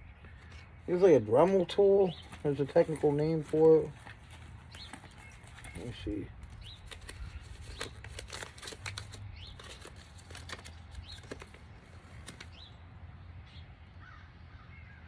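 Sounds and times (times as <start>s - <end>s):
small birds chirping: 0.0s - 15.0s
small tool kit rattling: 0.4s - 12.6s.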